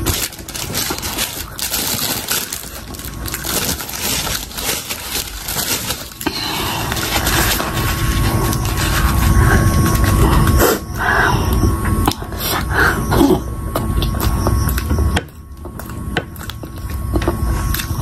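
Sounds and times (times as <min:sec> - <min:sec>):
chewing crunchy fried food: 0:00.0 - 0:11.0, 0:13.6 - 0:18.0.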